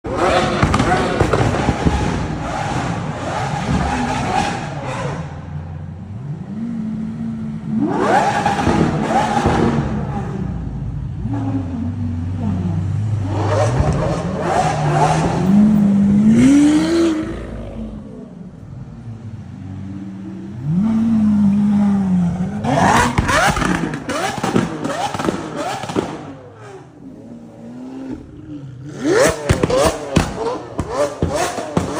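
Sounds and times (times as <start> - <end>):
car engine revving and accelerating: 0.1 - 31.9.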